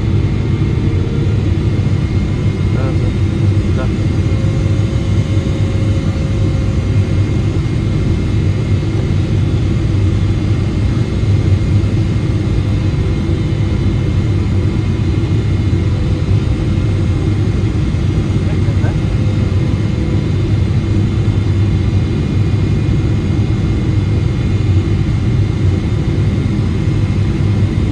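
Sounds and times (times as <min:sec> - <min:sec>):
airplane cabin low rumble: 0:00.0 - 0:27.9.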